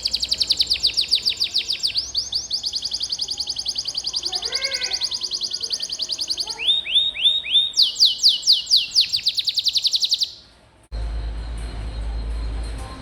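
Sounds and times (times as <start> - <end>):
canary singing trills: 0.0 - 10.5
faint chirps: 0.0 - 10.5.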